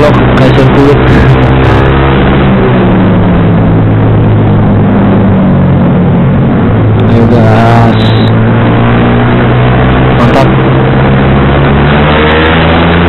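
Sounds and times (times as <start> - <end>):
motorcycle engine at steady throttle: 0.0 - 13.0
wind noise rushing: 0.0 - 13.0.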